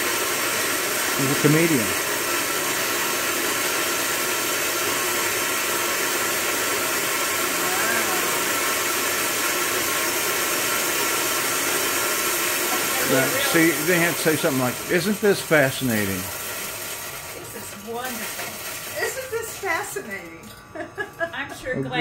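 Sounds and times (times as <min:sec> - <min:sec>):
coffee beans grinding: 0:00.0 - 0:21.2
coffee grinder motor humming: 0:00.0 - 0:22.0.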